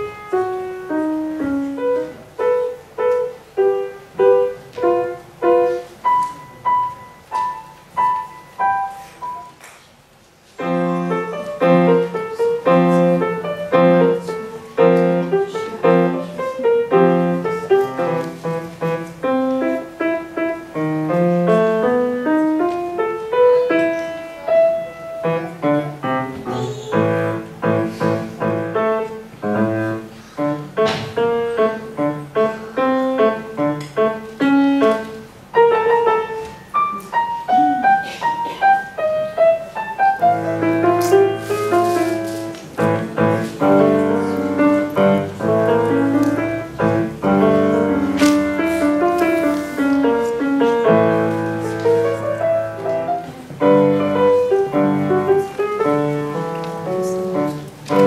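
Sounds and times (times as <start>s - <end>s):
grand piano playing: 0.0s - 9.6s, 10.5s - 58.0s.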